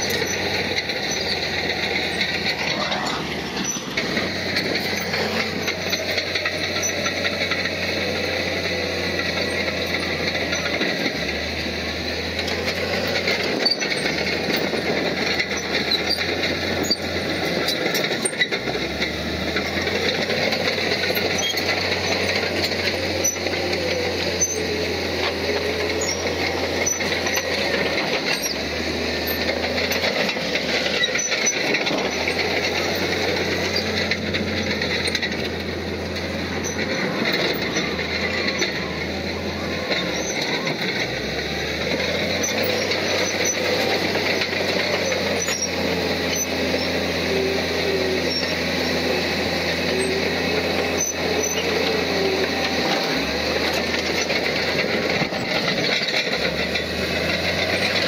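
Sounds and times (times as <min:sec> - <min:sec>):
bulldozer diesel engine: 0:00.0 - 0:58.0
steel tracks clanking: 0:00.0 - 0:58.0.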